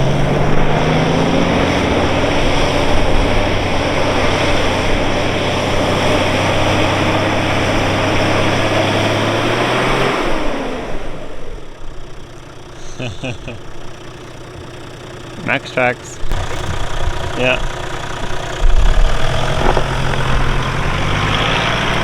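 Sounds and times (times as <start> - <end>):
engine running hard: 0.0 - 22.0.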